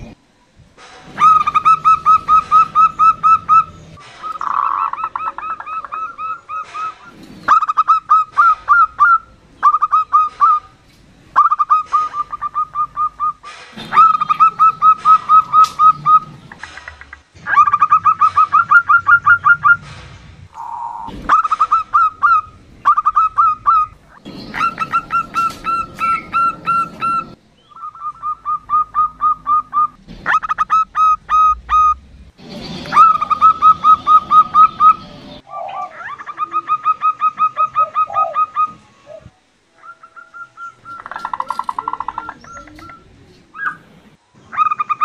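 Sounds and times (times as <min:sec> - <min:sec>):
dove calling in staccato trills: 0:01.1 - 0:19.9, 0:20.6 - 0:32.0, 0:32.9 - 0:45.0.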